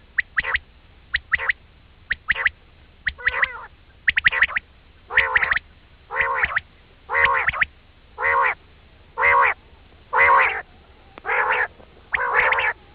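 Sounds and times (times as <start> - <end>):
quail call: 0.0 - 0.6, 1.2 - 8.6, 9.2 - 12.9.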